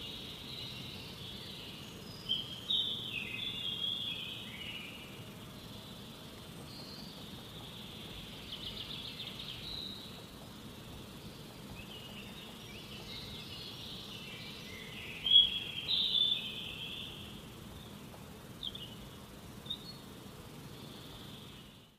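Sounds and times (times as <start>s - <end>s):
birds chirping and trilling: 0.0s - 21.9s
insects buzzing: 0.0s - 21.9s.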